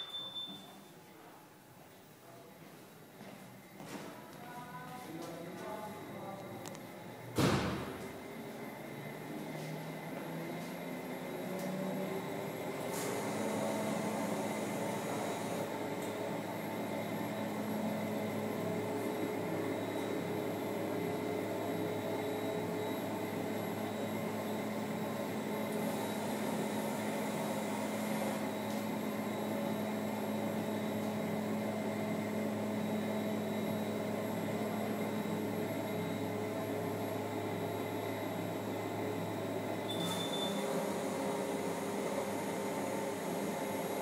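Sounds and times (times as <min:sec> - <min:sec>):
treadmill motor and belt hum: 0:02.7 - 0:44.0.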